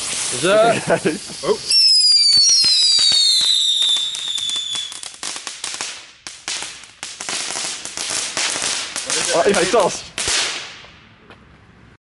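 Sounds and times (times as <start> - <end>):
whistling fireworks: 0.0 - 11.0
sharp crackling pops: 0.0 - 11.2.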